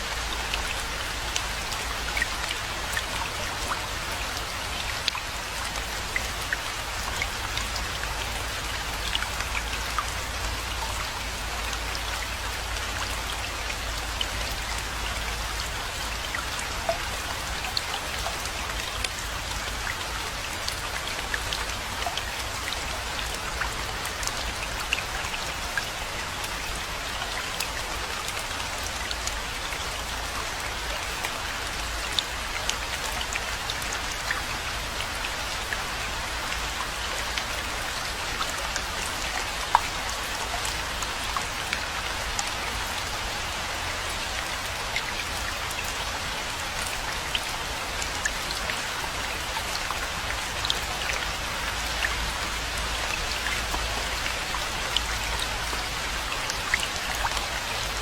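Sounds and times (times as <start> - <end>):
raindrops ticking: 0.0 - 58.0
steady rainfall: 0.0 - 58.0.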